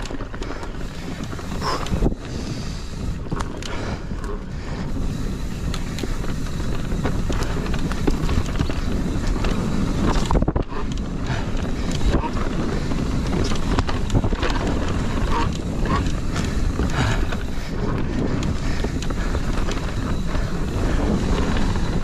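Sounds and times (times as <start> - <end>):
bike clicking and rattling: 0.0 - 22.0
bike tyre rumble: 0.0 - 22.0
wind buffeting microphone: 0.0 - 22.0.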